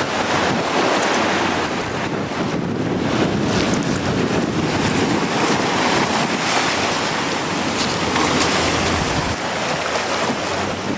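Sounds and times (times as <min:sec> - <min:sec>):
sea surf: 0:00.0 - 0:10.9
wind blowing across microphone: 0:00.0 - 0:10.9.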